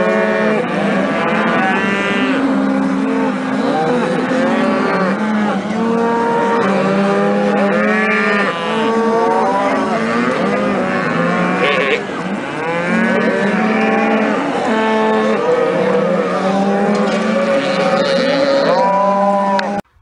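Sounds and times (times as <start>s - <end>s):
cows and calves bawling: 0.0s - 19.8s.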